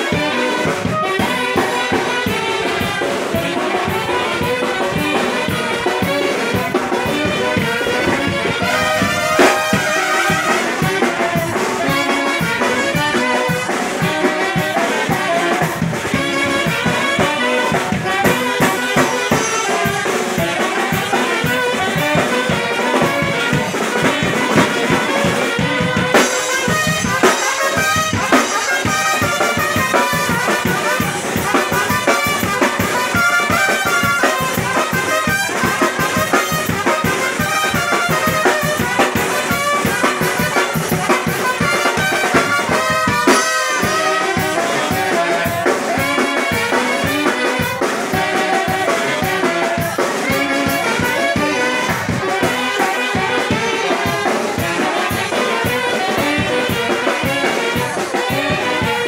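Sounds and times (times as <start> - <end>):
drum kit beat: 0.0 - 59.0
wind band playing dance tune: 0.0 - 59.0.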